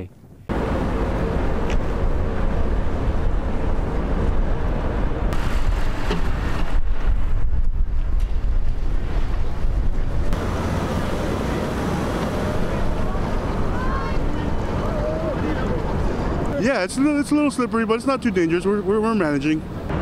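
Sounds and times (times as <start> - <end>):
storm wind buffeting microphone: 0.2 - 17.5.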